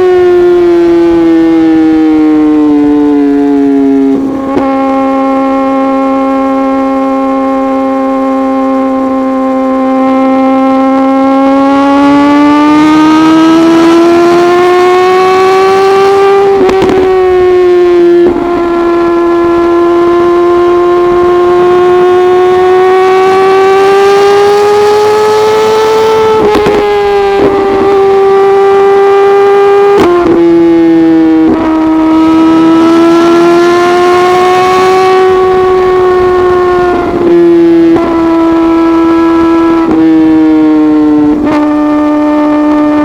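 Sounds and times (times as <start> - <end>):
motorcycle engine at high revs: 0.0 - 43.0.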